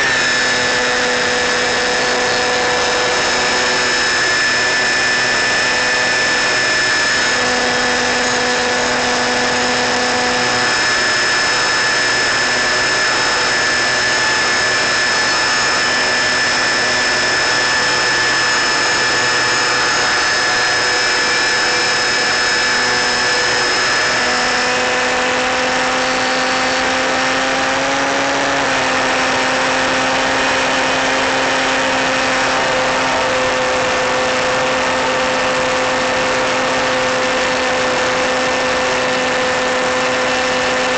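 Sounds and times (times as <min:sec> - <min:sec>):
model plane electric motor whine: 0:00.0 - 0:40.9.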